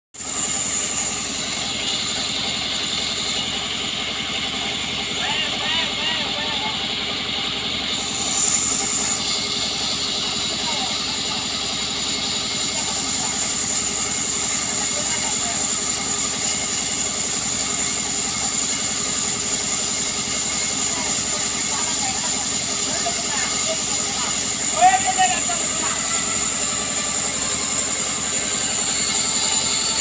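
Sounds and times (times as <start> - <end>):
sawmill saw cutting log: 0.2 - 30.0.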